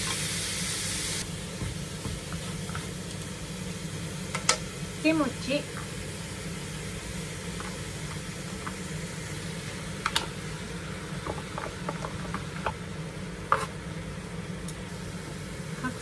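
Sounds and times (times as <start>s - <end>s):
meat sizzling in a frying pan: 0.0s - 14.2s.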